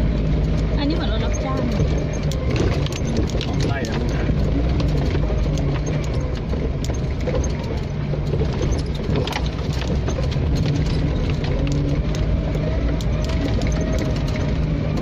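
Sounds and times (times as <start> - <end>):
vehicle engine running: 0.0 - 15.0
knocks and rattles: 0.4 - 15.0.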